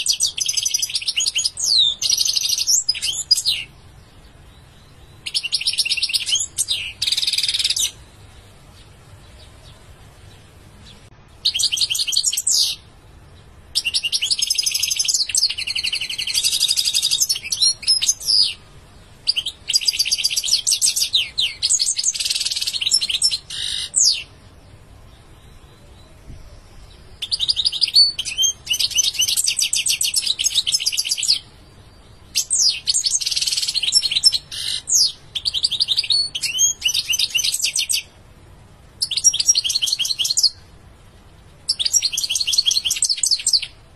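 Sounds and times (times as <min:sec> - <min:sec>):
finch singing high twittering trills: 0:00.0 - 0:08.1, 0:08.7 - 0:18.6, 0:19.2 - 0:24.3, 0:25.2 - 0:38.1, 0:39.0 - 0:40.7, 0:41.7 - 0:43.8.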